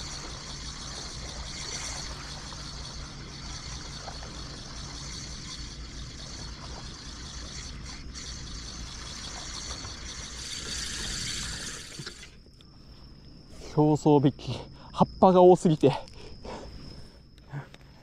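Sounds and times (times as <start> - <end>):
low steady hum: 0.0 - 18.0
wind: 0.0 - 18.0.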